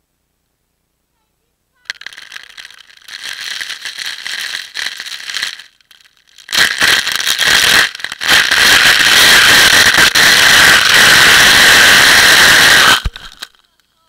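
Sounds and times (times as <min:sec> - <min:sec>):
hose water spraying on camera: 0:01.9 - 0:13.6.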